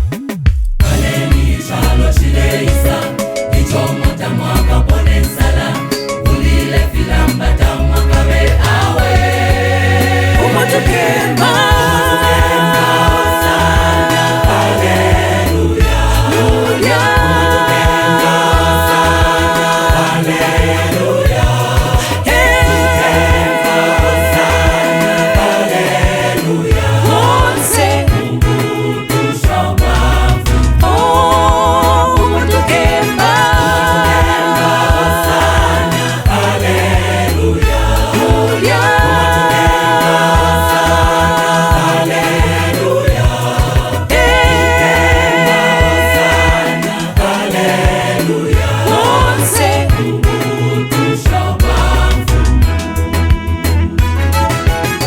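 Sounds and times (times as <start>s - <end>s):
drums and bass beat: 0.0s - 55.0s
choir singing gospel: 0.8s - 55.0s.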